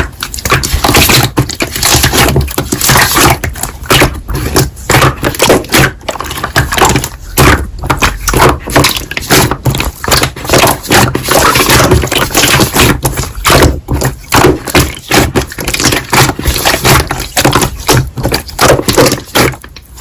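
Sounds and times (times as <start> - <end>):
slime squelching and popping: 0.0 - 20.0.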